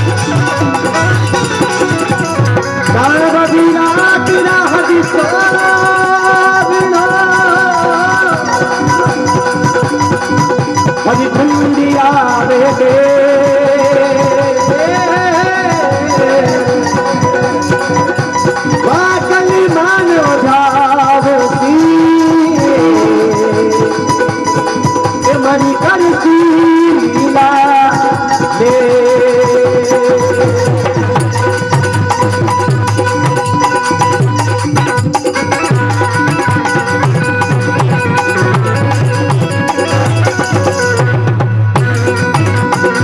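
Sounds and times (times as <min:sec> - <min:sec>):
fast folk percussion: 0:00.0 - 0:43.0.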